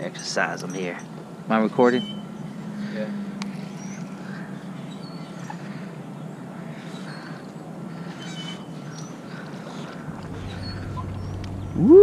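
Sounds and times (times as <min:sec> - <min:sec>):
boat engine droning: 0:01.3 - 0:12.0.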